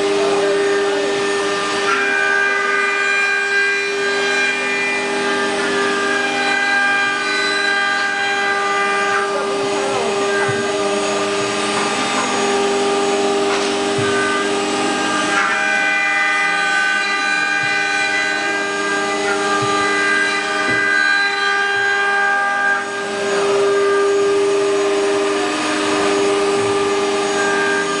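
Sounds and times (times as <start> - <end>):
wood router spindles whining: 0.0 - 28.0.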